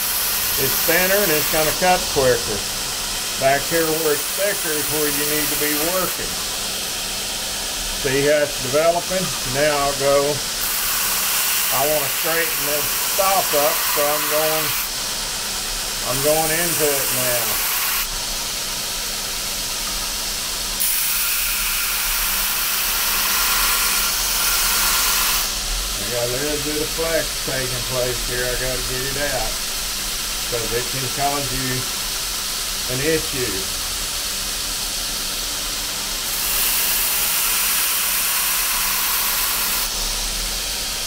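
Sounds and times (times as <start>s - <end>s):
belt grinder grinding steel: 0.0s - 18.6s, 20.8s - 33.7s, 34.3s - 40.3s.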